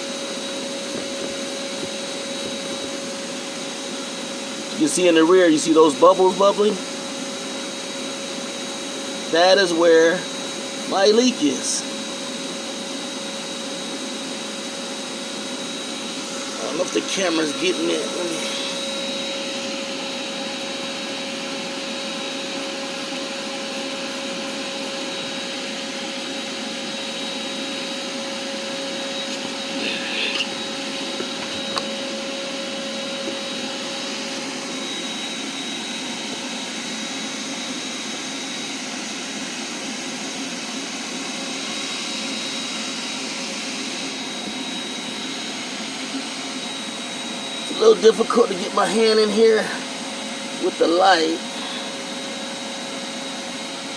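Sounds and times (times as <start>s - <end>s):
shop vac running: 0.0s - 53.9s.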